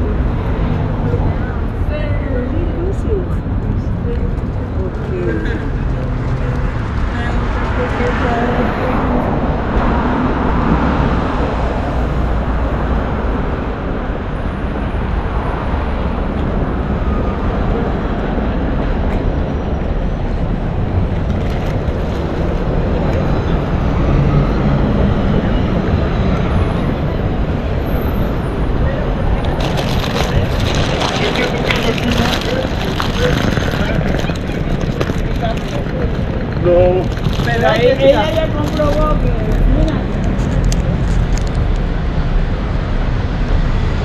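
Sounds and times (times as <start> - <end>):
indistinct voices: 0.0 - 44.0
road traffic: 0.0 - 44.0.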